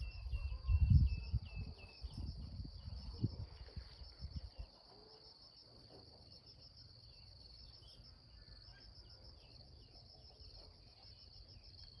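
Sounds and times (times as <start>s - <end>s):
faint bird chirps: 0.0s - 5.4s, 6.4s - 12.0s.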